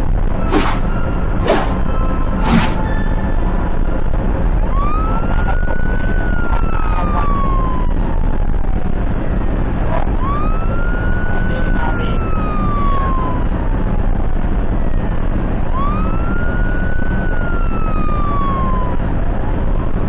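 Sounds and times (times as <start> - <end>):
vehicle driving rumble: 0.0 - 20.0
ambulance siren wailing: 0.4 - 20.0.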